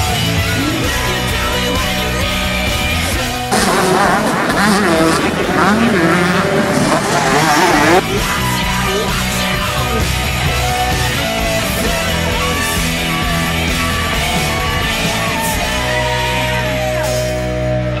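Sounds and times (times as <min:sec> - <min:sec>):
rock music with guitar and bass: 0:00.0 - 0:18.0.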